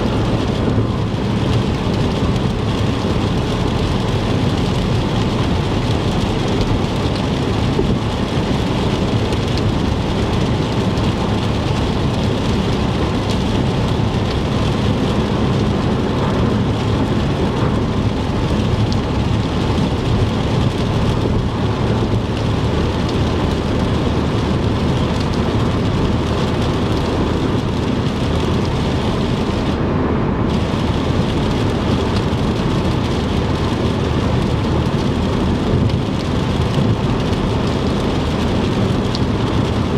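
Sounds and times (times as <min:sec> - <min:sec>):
low road rumble: 0:00.0 - 0:39.9
rain on a car: 0:00.0 - 0:39.9
tyres hissing on wet road: 0:00.0 - 0:39.9.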